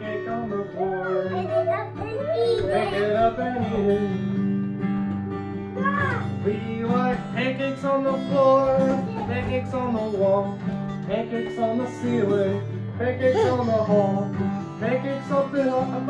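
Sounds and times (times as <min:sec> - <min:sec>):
person singing: 0:00.0 - 0:04.4, 0:05.8 - 0:16.0
acoustic guitar strumming: 0:00.0 - 0:16.0.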